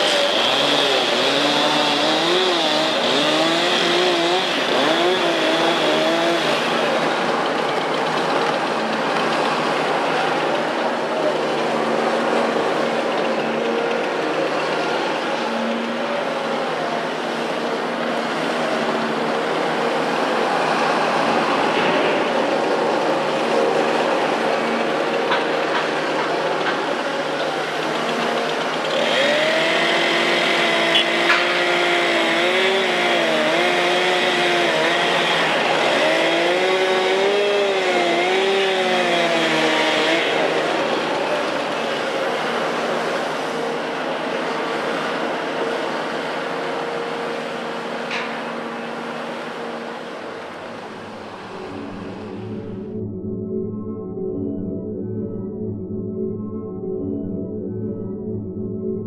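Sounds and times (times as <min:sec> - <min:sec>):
excavator diesel engine: 0:00.0 - 0:54.5
wavering hydraulic whine: 0:00.0 - 0:59.0.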